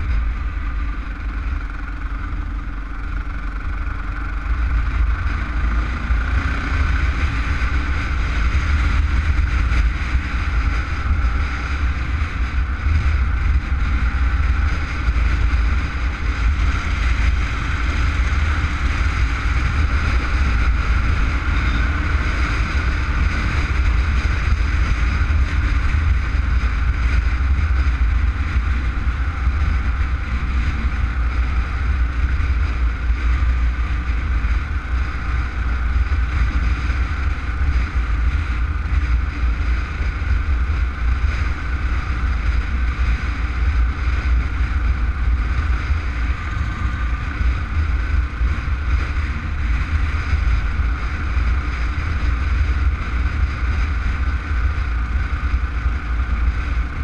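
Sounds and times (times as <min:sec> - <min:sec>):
road and engine noise: 0:00.0 - 0:57.0
wind rushing over microphone: 0:00.0 - 0:57.0.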